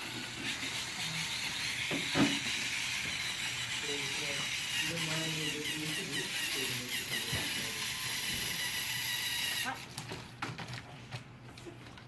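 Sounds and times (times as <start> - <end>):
servo motors whirring: 0.0 - 9.8.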